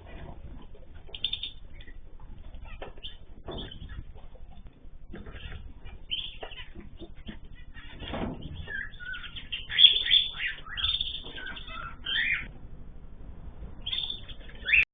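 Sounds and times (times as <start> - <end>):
cage birds chirping: 0.0 - 14.9.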